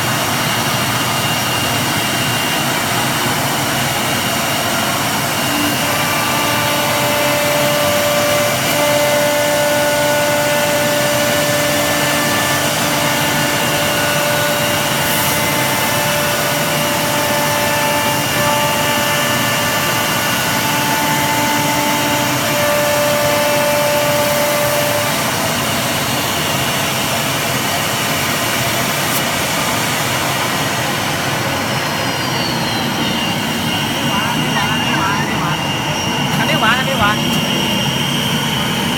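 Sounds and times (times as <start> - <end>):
machine hiss: 0.0 - 36.2
router spindles whining: 0.1 - 38.9.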